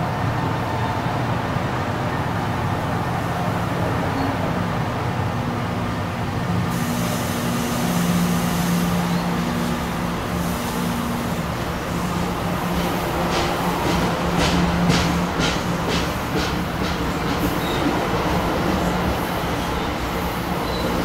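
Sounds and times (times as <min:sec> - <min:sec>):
train coaches rolling past: 0:00.0 - 0:21.0.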